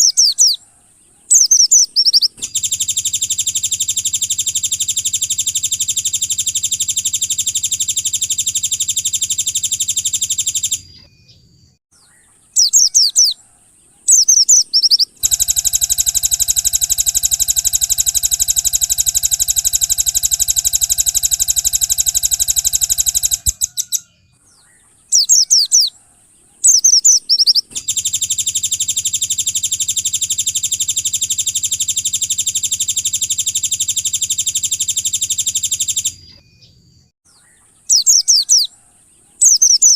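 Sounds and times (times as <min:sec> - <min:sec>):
songbird buzzing trills: 0:00.0 - 0:11.3, 0:12.6 - 0:24.0, 0:25.2 - 0:36.7.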